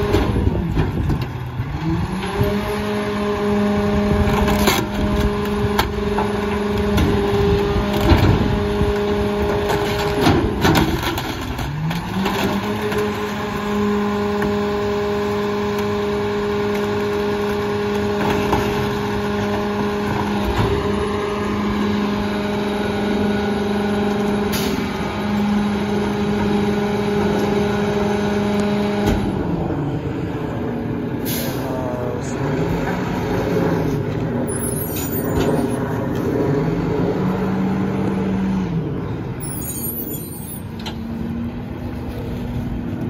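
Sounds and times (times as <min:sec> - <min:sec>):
garbage truck engine hum: 0:00.0 - 0:43.0.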